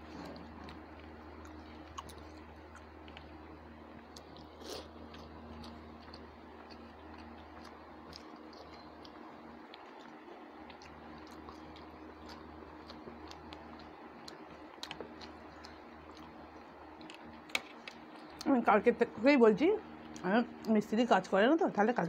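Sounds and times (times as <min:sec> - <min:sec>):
people chewing food: 0:00.0 - 0:18.7, 0:19.8 - 0:20.9
steady low hum: 0:00.0 - 0:22.0.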